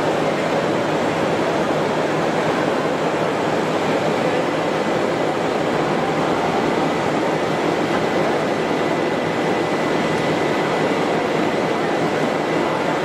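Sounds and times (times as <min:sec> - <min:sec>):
extrusion machinery running: 0:00.0 - 0:13.0.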